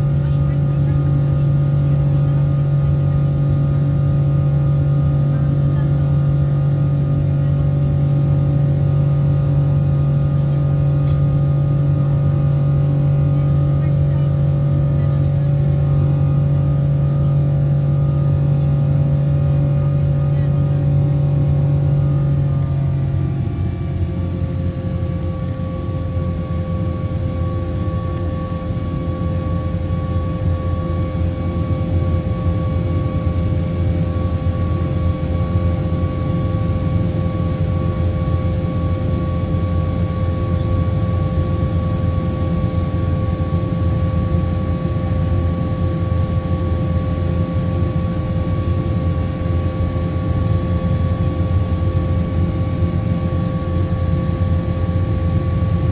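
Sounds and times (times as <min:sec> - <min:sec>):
jet engines rumbling and whining: 0:00.0 - 0:55.9.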